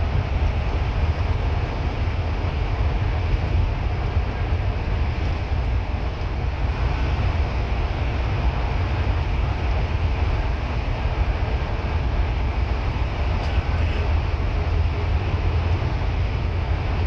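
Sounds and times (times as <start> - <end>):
bus engine rumble: 0.0 - 17.0
road noise hiss: 0.0 - 17.0.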